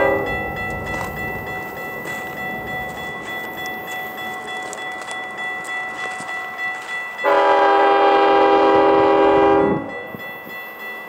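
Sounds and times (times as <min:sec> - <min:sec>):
crossing warning bell ringing: 0:00.0 - 0:11.0
diesel train rumble: 0:00.0 - 0:11.0.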